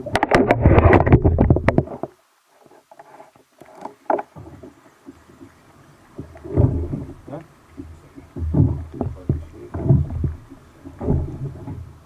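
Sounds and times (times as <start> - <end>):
knocks and clicks on kayak: 0.0 - 2.2, 3.0 - 5.5, 6.1 - 12.0
water splashes: 0.0 - 12.0.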